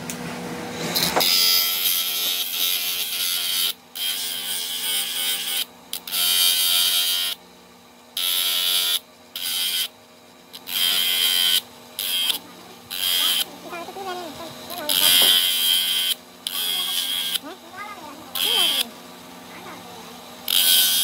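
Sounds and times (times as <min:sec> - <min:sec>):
power tool motor humming: 0:00.7 - 0:07.4, 0:08.1 - 0:09.9, 0:10.5 - 0:21.0.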